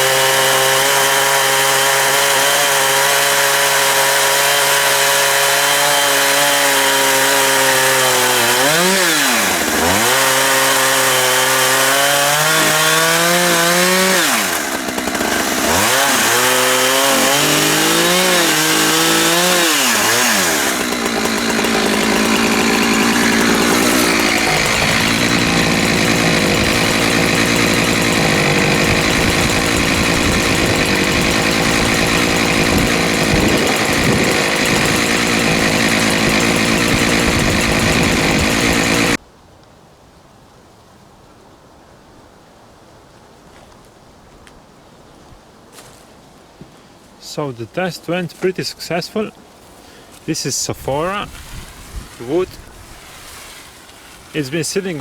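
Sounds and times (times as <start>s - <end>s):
chainsaw ripping a log: 0.0s - 39.2s, 49.8s - 55.0s.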